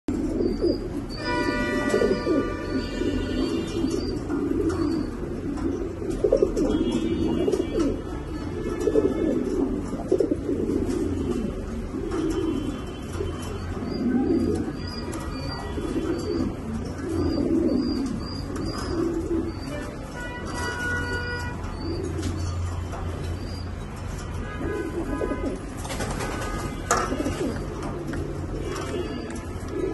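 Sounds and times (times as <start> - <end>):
pigeons cooing: 0.1 - 29.9.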